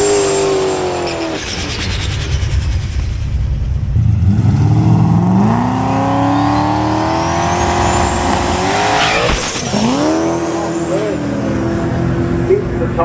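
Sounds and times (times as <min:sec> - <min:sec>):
high whine: 0:00.0 - 0:12.7
drag car engine accelerating: 0:00.0 - 0:13.0.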